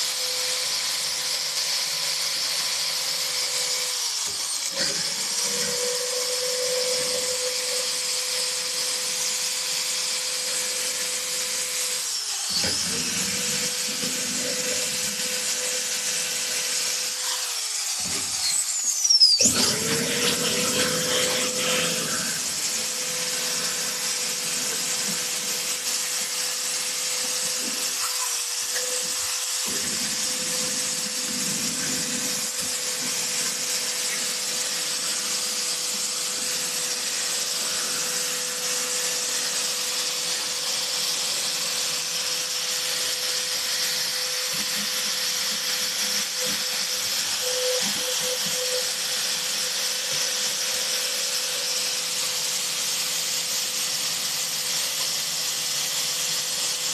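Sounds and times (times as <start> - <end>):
air grinder grinding metal: 0.0 - 56.9.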